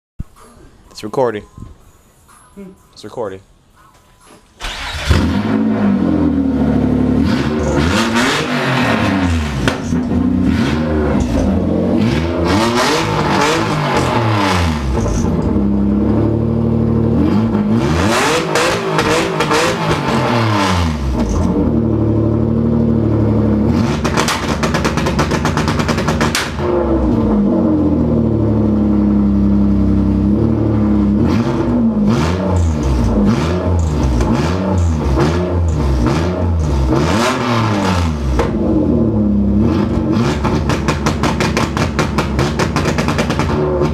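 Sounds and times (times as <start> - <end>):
car engine revving: 4.6 - 43.9.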